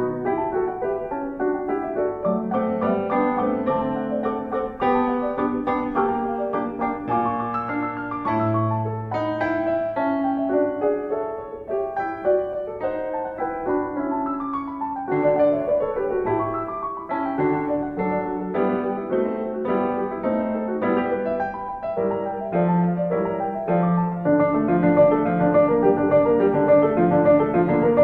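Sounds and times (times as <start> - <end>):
solo piano music: 0.0 - 28.0.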